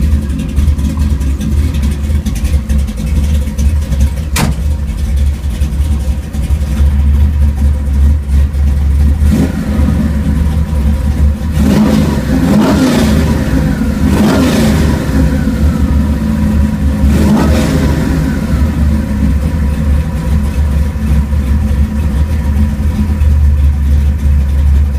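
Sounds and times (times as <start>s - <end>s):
car engine idling and revving: 0.0s - 24.9s.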